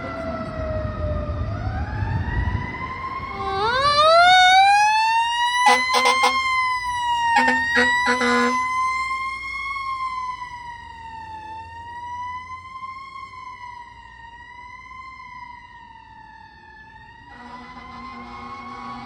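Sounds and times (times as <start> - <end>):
fire siren wailing: 0.0 - 19.0
lower steady siren tone: 0.0 - 19.0.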